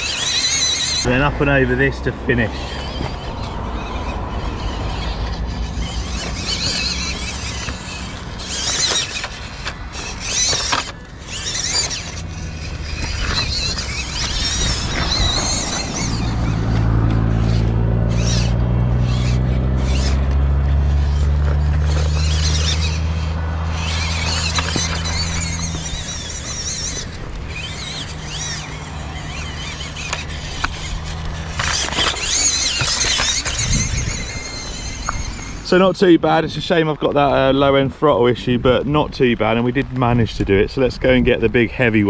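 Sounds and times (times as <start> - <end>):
small electric motor whining: 0.0 - 36.0.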